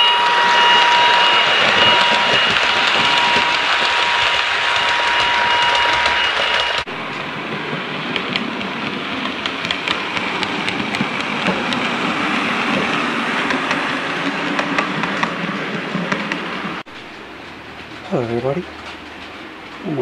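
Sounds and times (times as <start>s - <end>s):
model train rolling hum: 0.0s - 20.0s
wheels clicking on rails: 0.0s - 20.0s.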